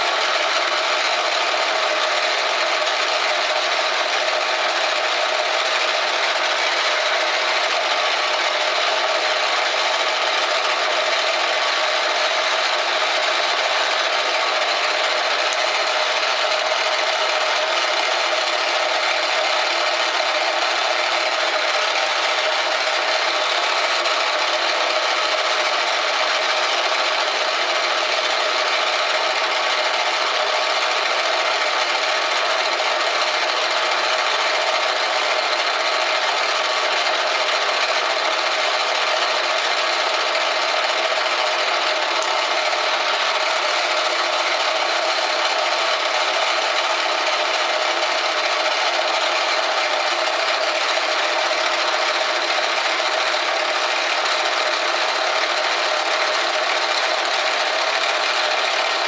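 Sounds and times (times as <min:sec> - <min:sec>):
metal lathe cutting hiss: 0:00.0 - 0:59.0.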